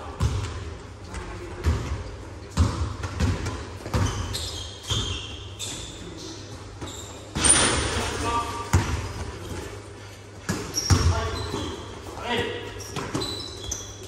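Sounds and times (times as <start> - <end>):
basketballs bouncing on gym floor: 0.0 - 9.8, 10.4 - 14.0
sneakers squeaking: 0.1 - 14.0.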